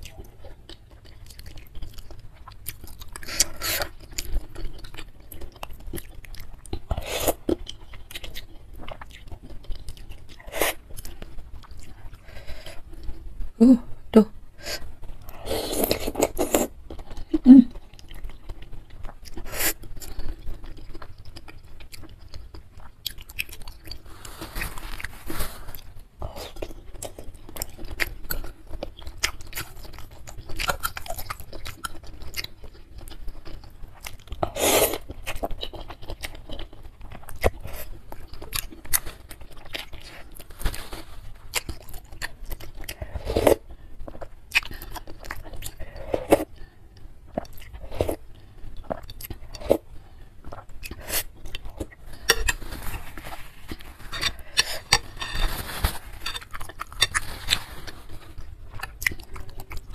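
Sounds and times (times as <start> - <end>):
close-miked chewing: 0.0 - 13.3, 14.6 - 59.9.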